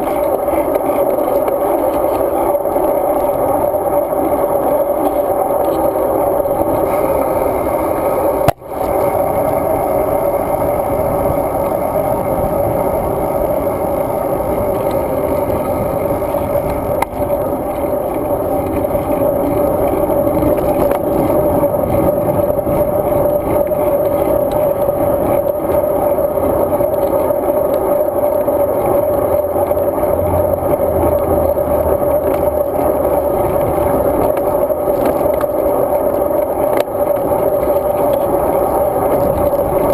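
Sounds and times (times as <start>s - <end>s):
bike riding noise: 0.0s - 39.9s
wind noise: 0.0s - 39.9s.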